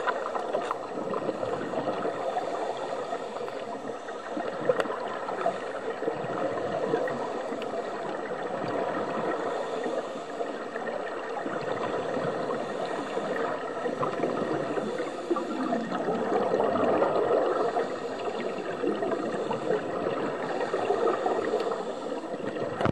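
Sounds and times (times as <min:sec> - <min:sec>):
underwater bubbles gurgling: 0:00.0 - 0:22.9.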